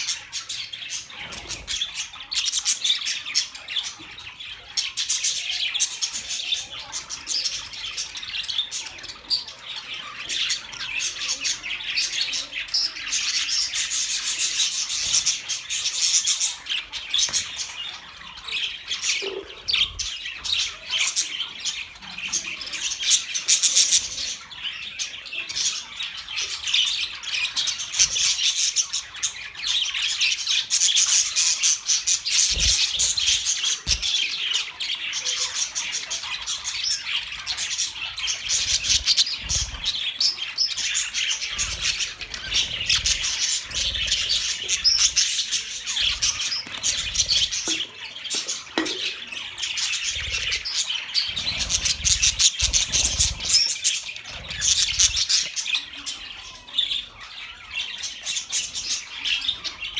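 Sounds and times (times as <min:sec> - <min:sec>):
budgerigars chattering: 0:00.0 - 0:59.9.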